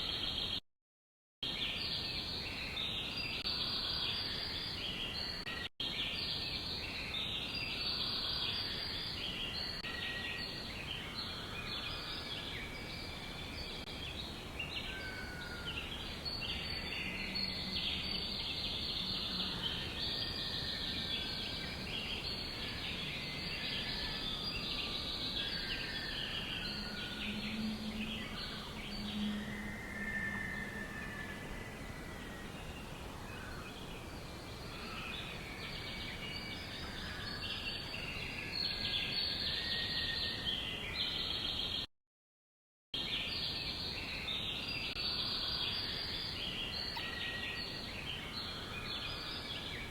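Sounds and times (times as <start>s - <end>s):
outdoor background hiss: 1.4s - 41.9s, 43.0s - 49.9s
small birds chirping: 1.4s - 41.9s, 43.0s - 49.9s.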